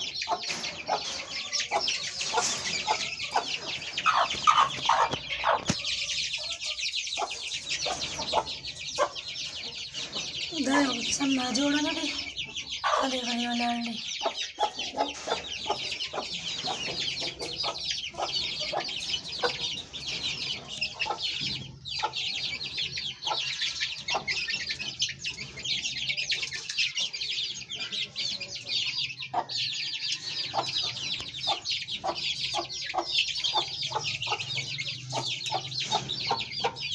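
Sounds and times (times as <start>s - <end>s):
chicks peeping: 0.0s - 36.9s.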